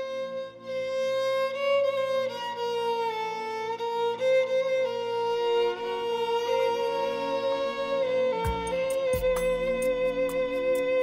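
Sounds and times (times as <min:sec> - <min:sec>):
slow violin melody: 0:00.0 - 0:11.0.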